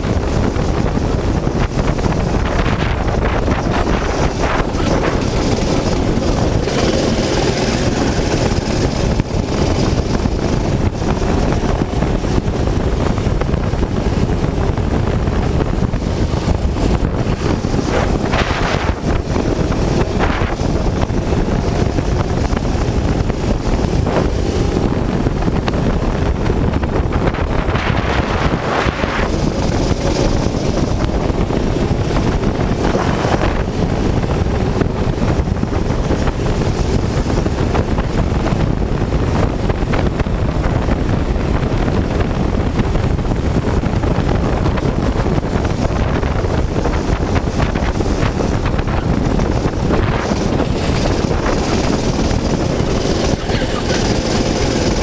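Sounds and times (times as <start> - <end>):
go-kart engine running: 0.0 - 55.0
wind noise on microphone: 0.0 - 55.0.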